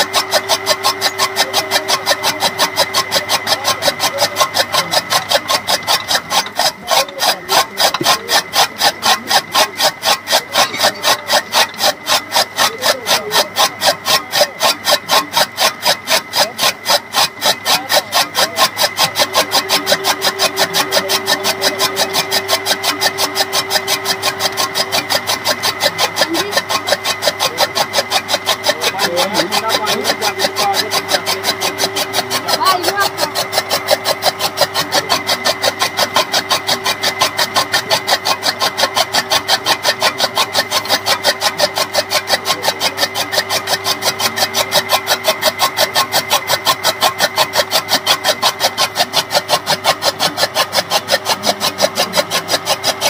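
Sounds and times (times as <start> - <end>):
chaff cutter chopping fodder: 0.0 - 53.0
motor hum: 0.0 - 53.0.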